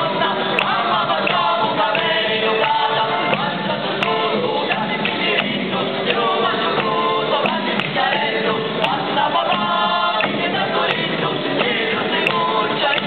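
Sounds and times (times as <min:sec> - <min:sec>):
accordion: 0:00.0 - 0:13.0
acoustic guitar: 0:00.0 - 0:13.0
voices singing together: 0:00.0 - 0:13.0.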